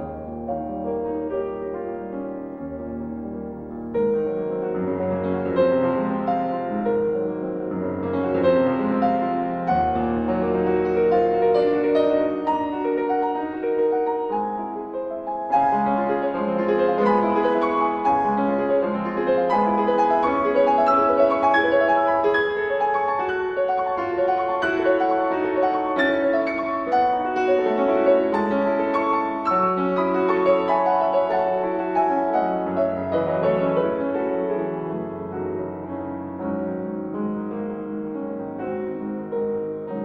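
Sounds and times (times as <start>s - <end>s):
flowing piano music: 0.0s - 40.0s.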